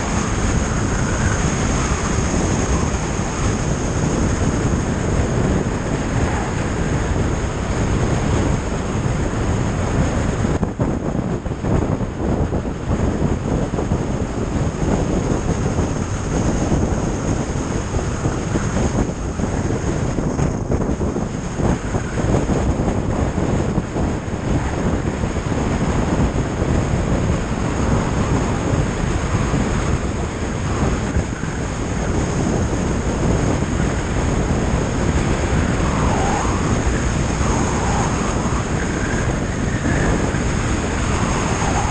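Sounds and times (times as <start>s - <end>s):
tyre road noise: 0.0s - 41.9s
wind buffeting microphone: 0.0s - 41.9s.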